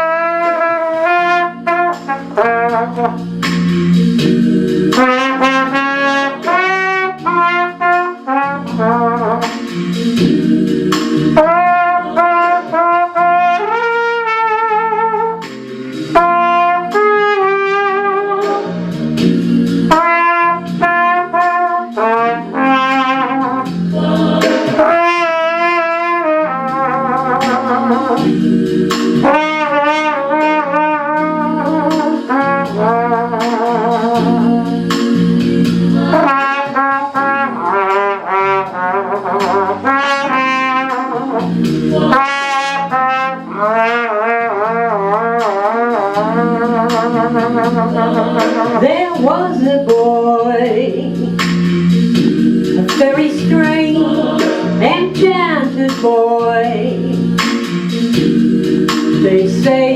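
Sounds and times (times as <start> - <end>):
flugelhorn slow melody: 0.0 - 49.6
sustained keyboard chords: 0.0 - 59.9.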